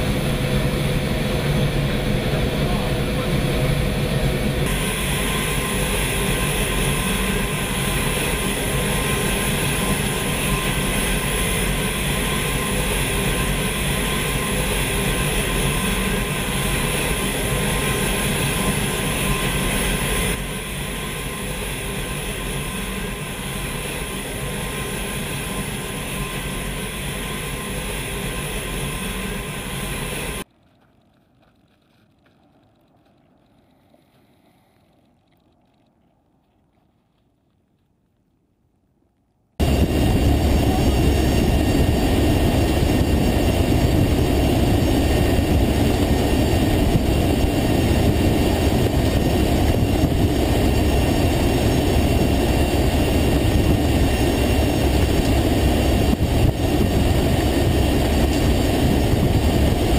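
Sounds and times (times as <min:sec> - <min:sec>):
turboprop engines droning: 0:00.0 - 0:30.5, 0:39.6 - 0:59.9.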